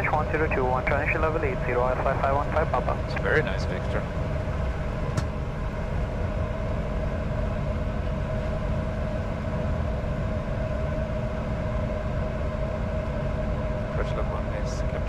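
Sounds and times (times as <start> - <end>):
jet engine hum: 0.0 - 15.0.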